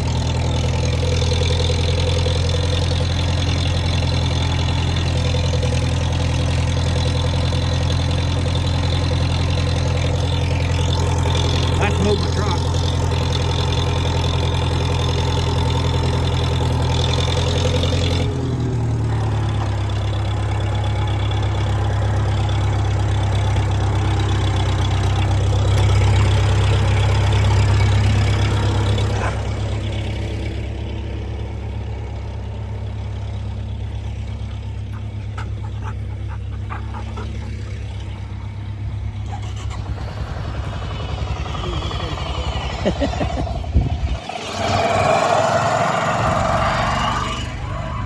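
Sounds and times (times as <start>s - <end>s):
truck engine humming: 0.0s - 48.0s.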